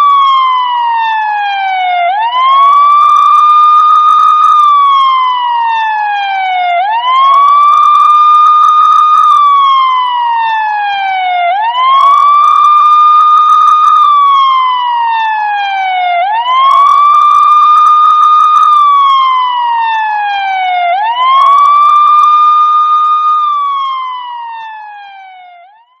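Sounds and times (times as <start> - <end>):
police siren ringtone wail: 0.0 - 26.0.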